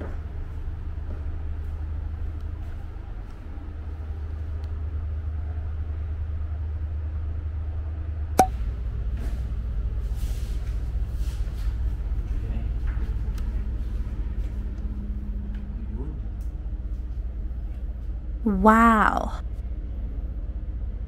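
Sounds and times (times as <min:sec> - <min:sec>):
ferry engines droning: 0:00.0 - 0:21.0.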